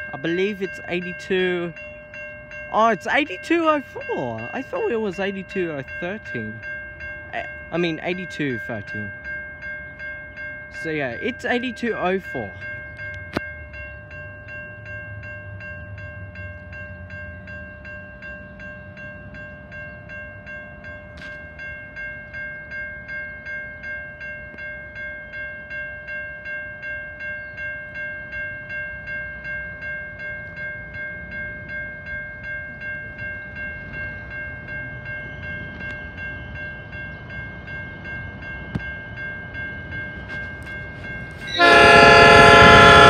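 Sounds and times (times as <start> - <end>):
diesel train rumble: 0.0 - 23.9, 27.5 - 43.0
level crossing bell ringing: 0.0 - 43.0.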